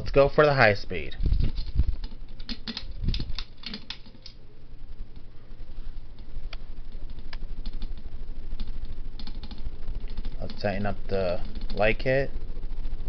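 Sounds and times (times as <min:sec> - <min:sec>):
ceiling fan clicks and rattles: 0:00.0 - 0:05.4, 0:06.0 - 0:13.0
ceiling fan motor hum: 0:00.0 - 0:13.0.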